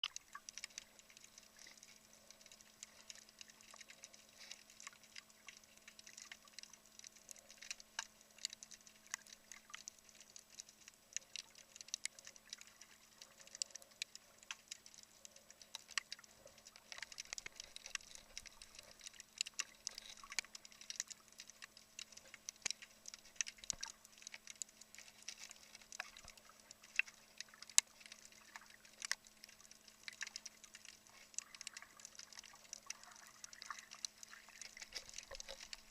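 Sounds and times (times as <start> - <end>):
faint steady hum: 0.0 - 35.9
underwater crackle of clicks: 0.0 - 35.9.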